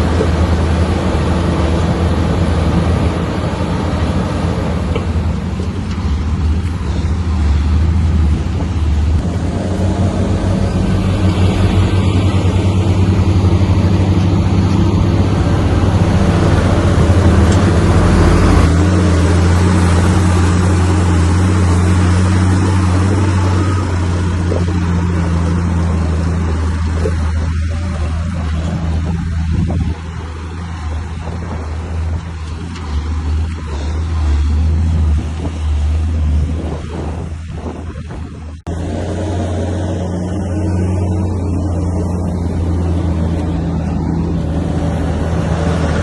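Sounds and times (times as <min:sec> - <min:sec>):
bulldozer diesel engine: 0:00.0 - 0:46.0.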